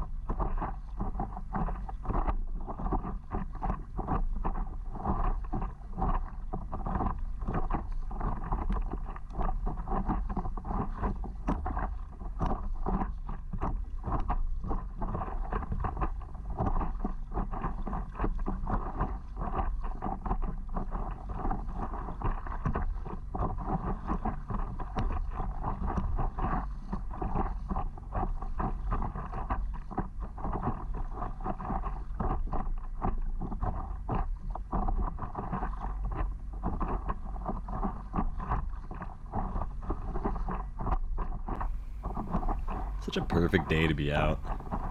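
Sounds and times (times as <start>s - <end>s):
water lapping and splashing: 0.0s - 43.2s.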